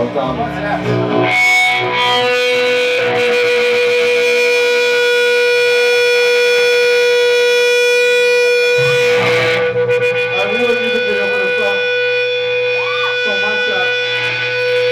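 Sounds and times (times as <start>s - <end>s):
electric guitar feedback: 0.0s - 14.9s.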